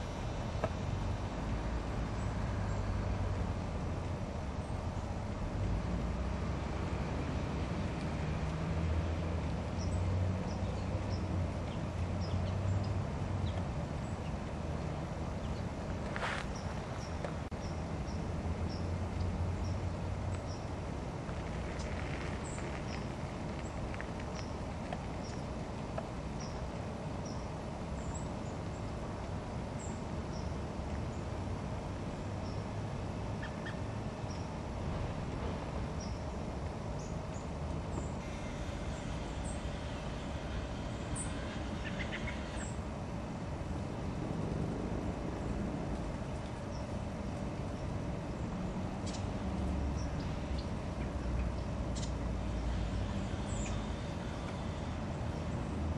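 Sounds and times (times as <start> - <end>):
faint steady hum: 0.0 - 55.9
low outdoor rumble: 0.0 - 55.9.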